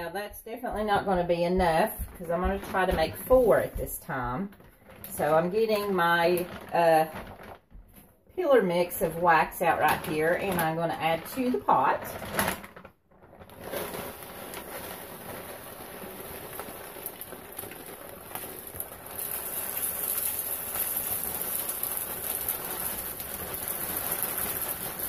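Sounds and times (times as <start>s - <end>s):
wax grains pattering on metal: 0.0s - 25.0s.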